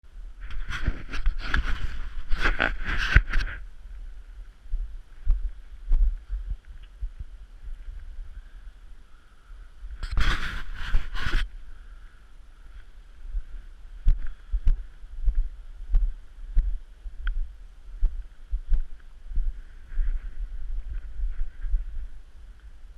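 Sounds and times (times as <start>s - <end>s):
wind buffeting microphone: 0.3s - 12.0s, 13.3s - 22.9s.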